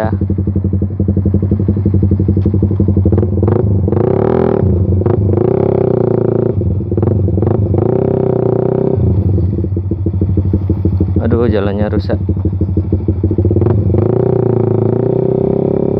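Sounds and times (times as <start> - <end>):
motorcycle engine accelerating: 0.0 - 15.9.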